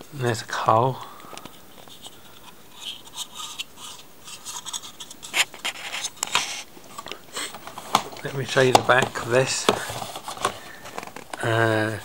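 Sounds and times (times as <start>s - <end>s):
handling rubbing and scraping: 0.6s - 12.0s.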